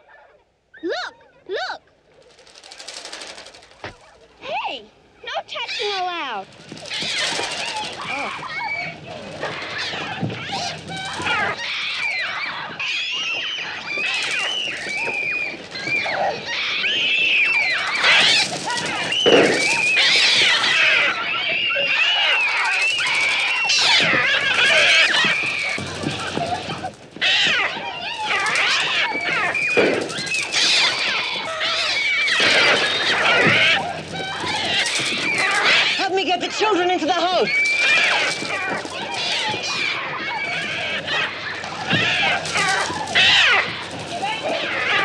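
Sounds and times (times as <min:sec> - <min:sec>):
seagulls shrieking: 0:05.5 - 0:45.0.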